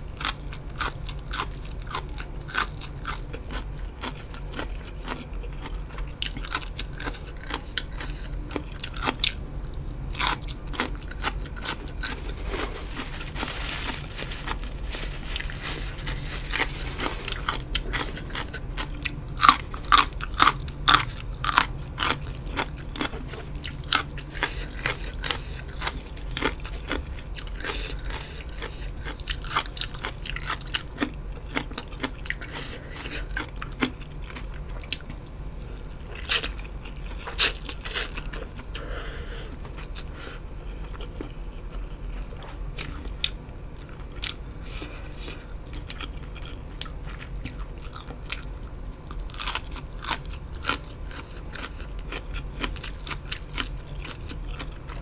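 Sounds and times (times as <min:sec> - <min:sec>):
crunchy food being chewed: 0:00.1 - 0:38.9, 0:39.5 - 0:55.0.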